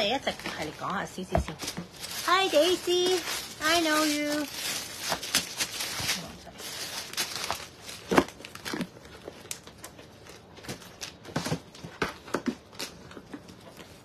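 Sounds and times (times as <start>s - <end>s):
paper crinkling and rustling: 0.0s - 14.0s.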